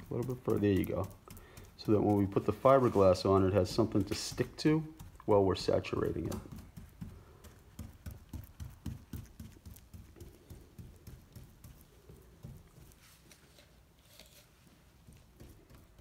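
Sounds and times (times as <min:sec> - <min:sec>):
brush tapping on fiberglass: 0:00.0 - 0:13.5, 0:14.8 - 0:16.0.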